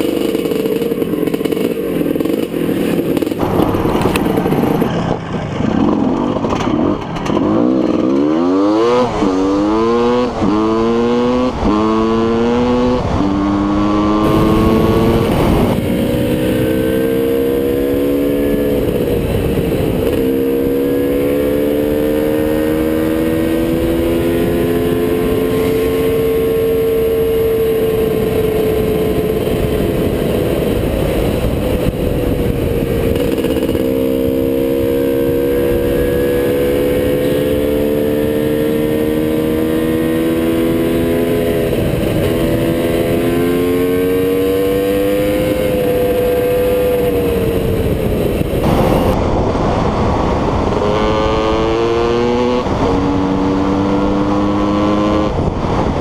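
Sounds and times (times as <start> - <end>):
two-stroke motorcycle engine: 0.0 - 56.0
wind rush on microphone: 0.0 - 56.0.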